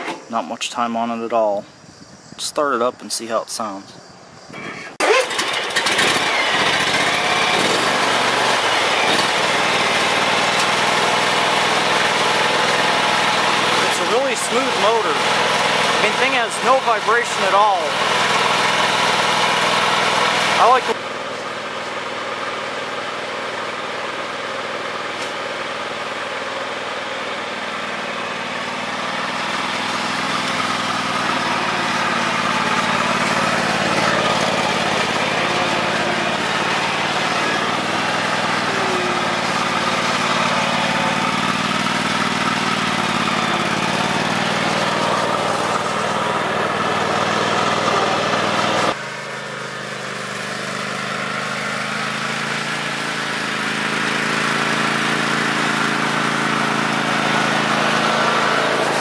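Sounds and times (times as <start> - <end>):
lawn tractor engine running: 4.5 - 59.0.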